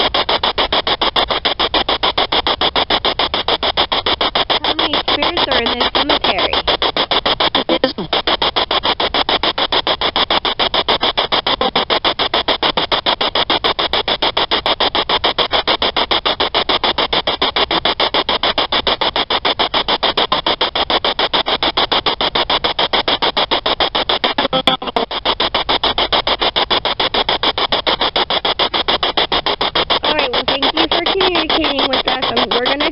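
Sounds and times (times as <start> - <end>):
choppy radio static: 0.0 - 32.9.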